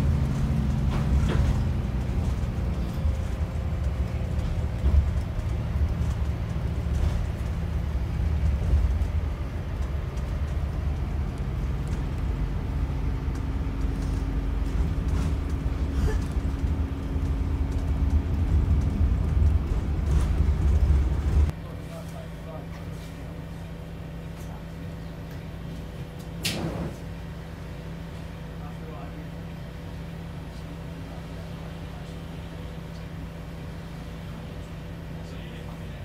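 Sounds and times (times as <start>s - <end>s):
bus engine rumble and road noise: 0.0s - 36.0s.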